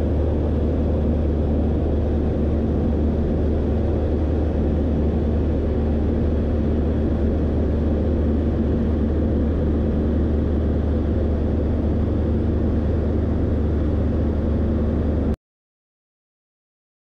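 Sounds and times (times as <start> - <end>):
aircraft engine and propeller droning: 0.0 - 15.4.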